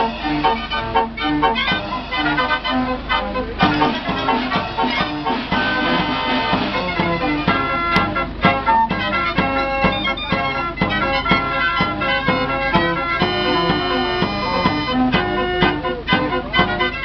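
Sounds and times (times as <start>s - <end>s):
fairground organ playing: 0.0s - 17.0s.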